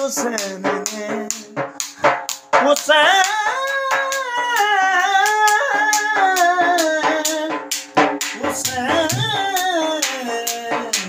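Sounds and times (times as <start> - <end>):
dhol beaten with a stick: 0.0 - 11.0.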